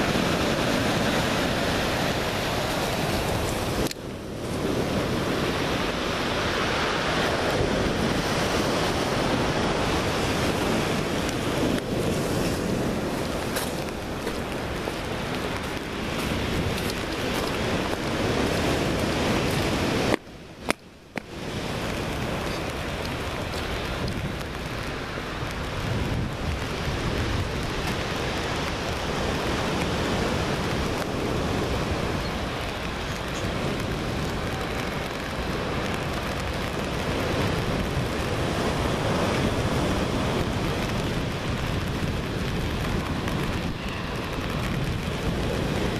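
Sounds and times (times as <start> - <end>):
sea surf washing: 0.0 - 45.9
wind blowing across microphone: 0.0 - 45.9.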